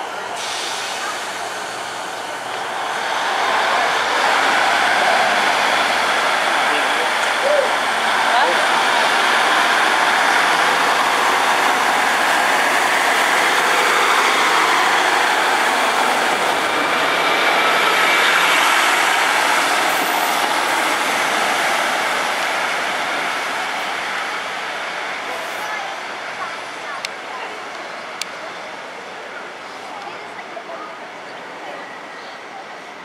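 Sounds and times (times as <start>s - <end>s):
diesel train passing: 0.0s - 33.0s.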